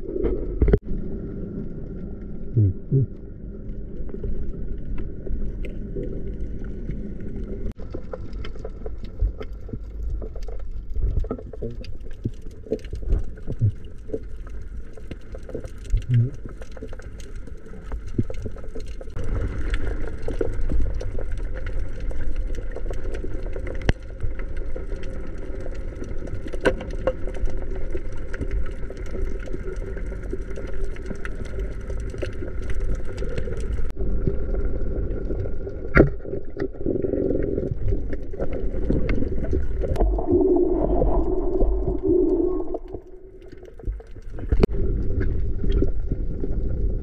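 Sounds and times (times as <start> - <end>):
muffled underwater rumble: 0.0 - 47.0.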